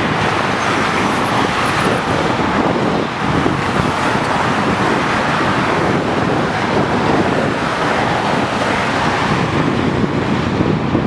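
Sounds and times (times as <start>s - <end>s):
freeway traffic rushing: 0.0s - 11.0s.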